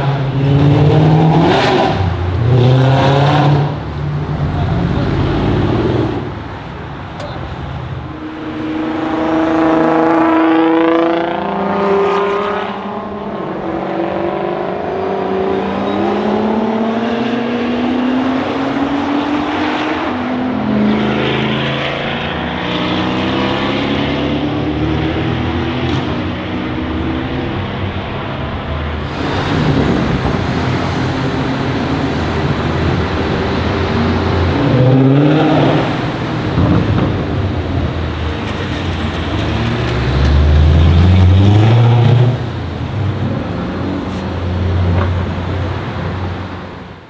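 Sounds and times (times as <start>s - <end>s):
car engines accelerating hard: 0.0s - 47.0s.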